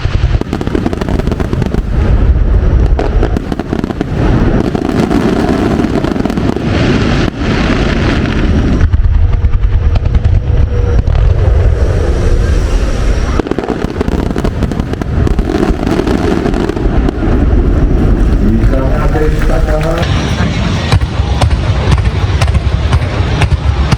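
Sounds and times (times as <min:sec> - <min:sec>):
fireworks bursting with crackling: 0:00.0 - 0:23.9.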